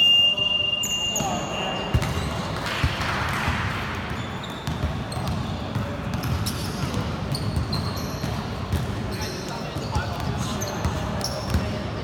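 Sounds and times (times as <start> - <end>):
basketball bouncing on court: 1.2 - 11.8.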